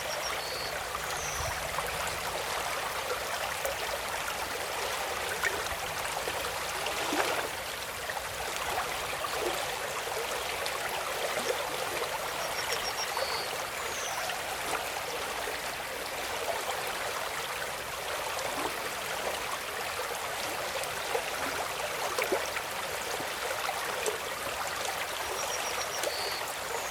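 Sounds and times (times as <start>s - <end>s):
stream water splashing: 0.0s - 26.9s.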